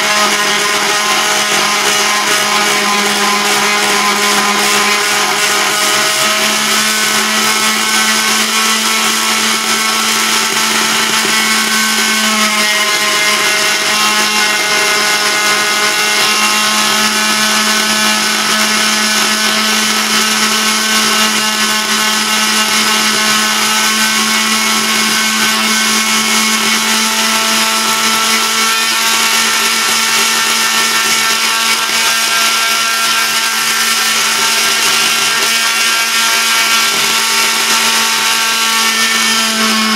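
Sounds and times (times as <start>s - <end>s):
oscillating multi-tool cutting wood: 0.0s - 39.9s.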